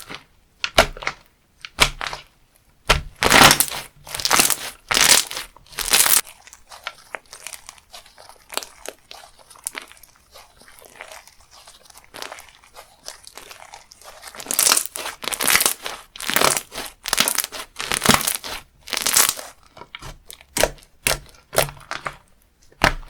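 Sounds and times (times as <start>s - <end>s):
crunchy slime squeezed by hand: 2.9s - 23.0s.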